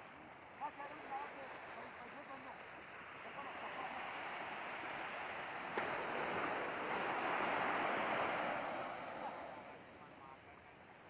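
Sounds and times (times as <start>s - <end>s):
surf washing up a beach: 0.0s - 11.0s.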